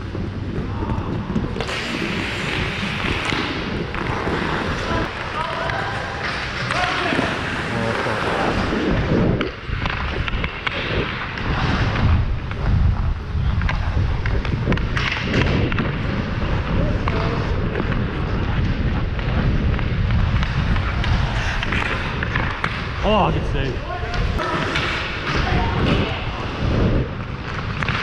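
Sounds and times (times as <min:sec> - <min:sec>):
wind buffeting microphone: 0:00.0 - 0:06.2, 0:07.0 - 0:28.0
skate blades scraping ice: 0:00.0 - 0:28.0.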